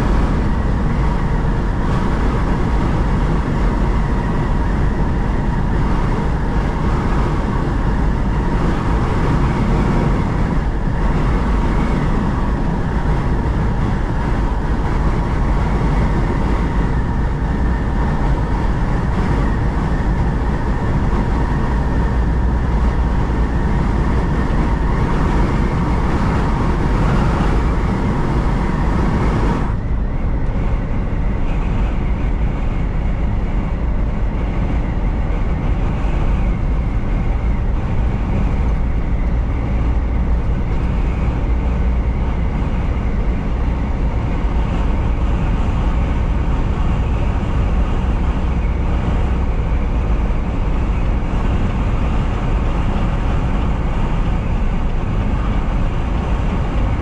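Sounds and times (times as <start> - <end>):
truck engine and tyre rumble: 0.0 - 57.0.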